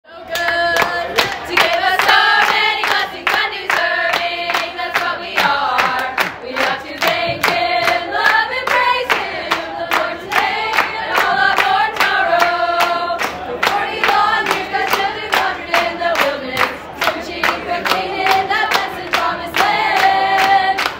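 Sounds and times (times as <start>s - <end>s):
group of voices singing: 0.1s - 20.9s
hand claps: 0.3s - 20.9s.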